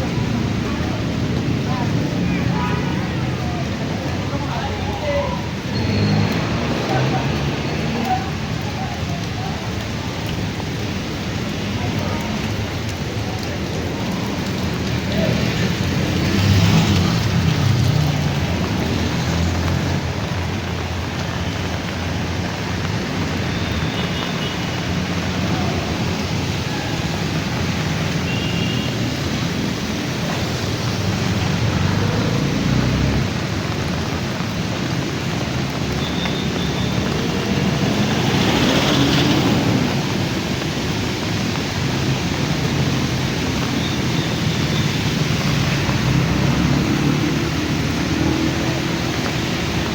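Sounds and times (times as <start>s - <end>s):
heavy rain on street: 0.0s - 49.9s
traffic passing: 0.0s - 49.9s.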